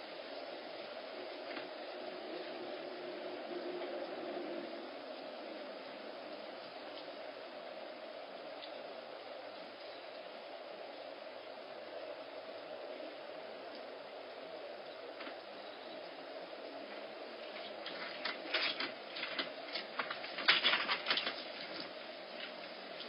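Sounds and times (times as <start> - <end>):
steady background hiss: 0.0 - 23.0
steady background hum: 0.0 - 23.0.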